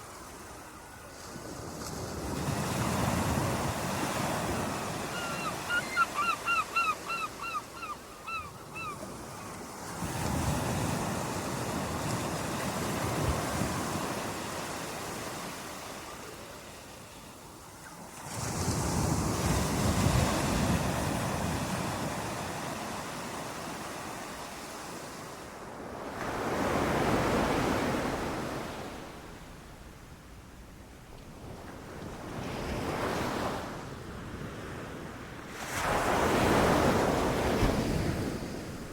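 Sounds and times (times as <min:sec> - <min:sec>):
ocean waves breaking: 0:00.0 - 0:17.1, 0:18.0 - 0:29.8, 0:31.3 - 0:38.9.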